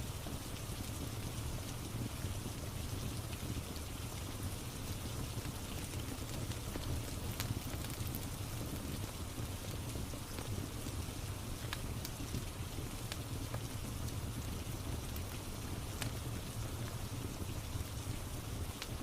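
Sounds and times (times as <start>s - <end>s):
steady rain: 0.0s - 19.0s
wood fire crackles: 0.0s - 19.0s.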